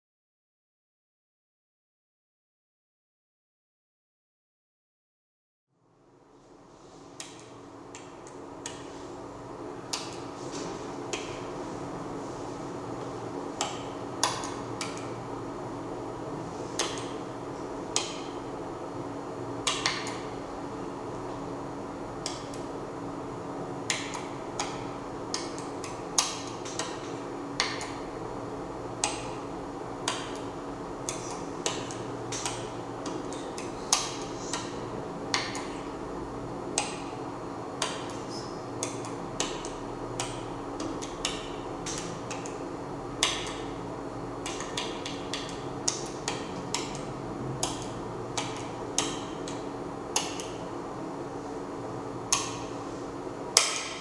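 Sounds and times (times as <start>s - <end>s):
steady low hum: 5.7s - 54.0s.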